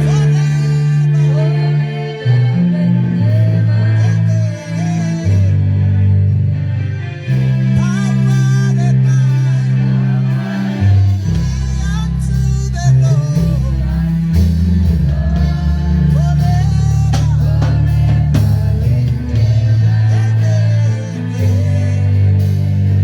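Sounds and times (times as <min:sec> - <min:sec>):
person singing: 0:00.0 - 0:06.0, 0:07.4 - 0:23.0
worship band playing: 0:00.0 - 0:23.0.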